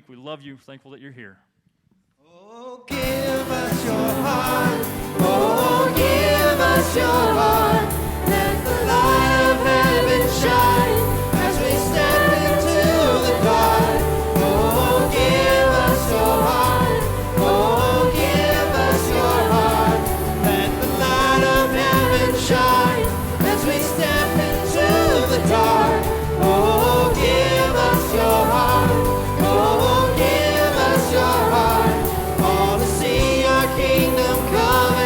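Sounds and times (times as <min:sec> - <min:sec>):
band playing worship music: 0:02.9 - 0:35.0
people singing: 0:02.9 - 0:35.0.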